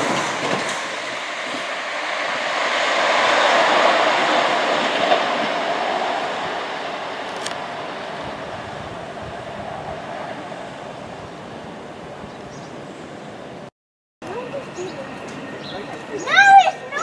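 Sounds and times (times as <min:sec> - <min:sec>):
train rumble and wheel noise: 0:00.0 - 0:17.0.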